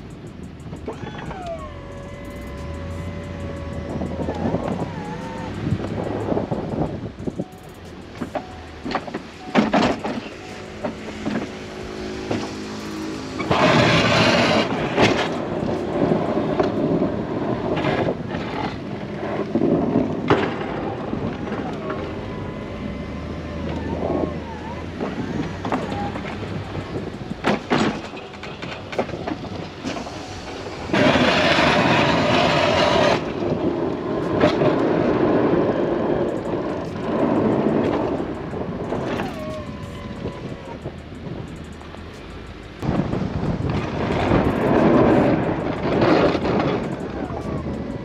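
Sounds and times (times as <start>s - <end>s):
truck engine running: 0.0s - 48.0s
plow blade scraping snow: 1.3s - 7.2s, 7.9s - 41.0s, 41.8s - 48.0s.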